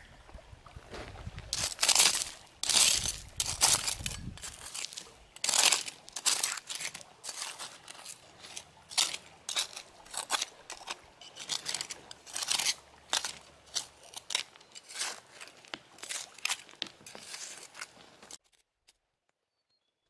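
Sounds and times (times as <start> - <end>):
knife scraping gravelly soil: 1.5 - 18.6.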